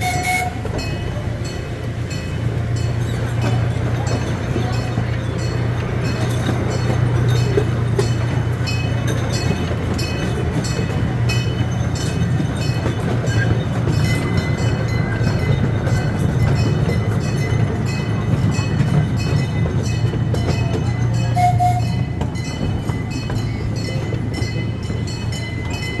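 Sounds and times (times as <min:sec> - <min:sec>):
small train rumbling: 0:00.0 - 0:26.0
wheels clicking and clacking: 0:00.0 - 0:26.0.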